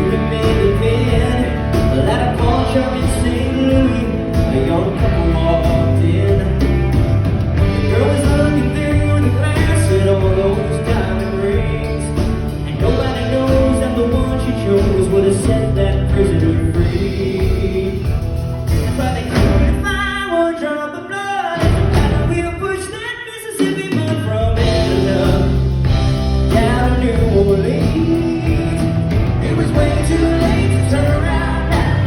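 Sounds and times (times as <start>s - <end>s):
live country band playing: 0.0s - 32.0s
man singing: 0.0s - 32.0s.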